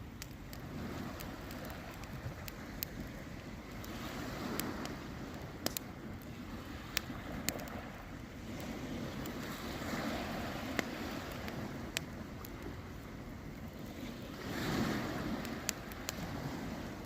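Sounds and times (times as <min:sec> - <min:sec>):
campfire wood crackling: 0:00.0 - 0:17.0
wind: 0:00.0 - 0:17.0.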